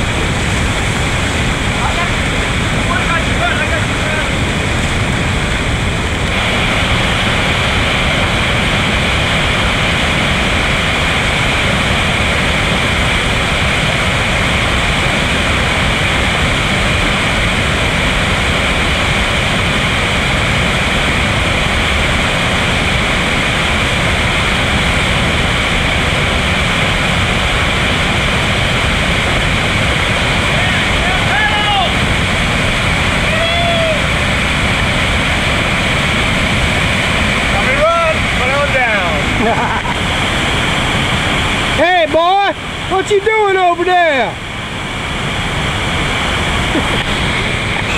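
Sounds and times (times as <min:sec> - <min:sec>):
whitewater rapid roaring: 0:00.0 - 0:47.9.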